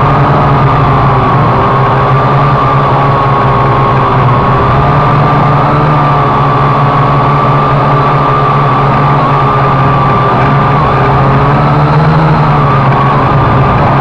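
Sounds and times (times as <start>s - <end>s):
drone motors humming and whining: 0.0s - 14.0s.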